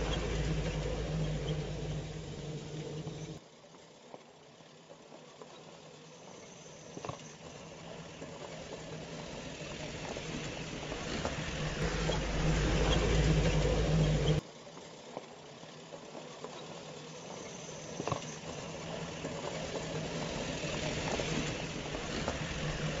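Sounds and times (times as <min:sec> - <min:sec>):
wheels rolling over dirt: 0:00.0 - 0:23.0.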